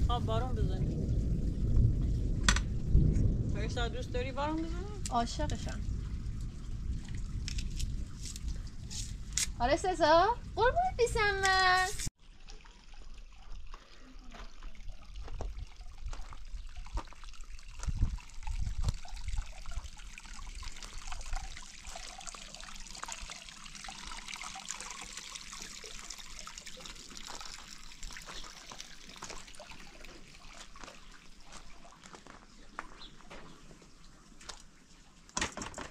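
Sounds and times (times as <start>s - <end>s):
water trickling and splashing: 0.0s - 35.9s.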